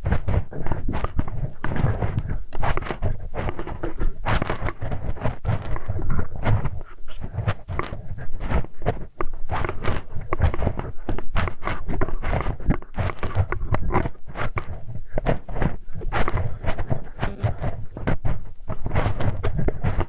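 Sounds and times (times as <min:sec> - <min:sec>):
ear cleaning scratching and rubbing: 0:00.0 - 0:20.0.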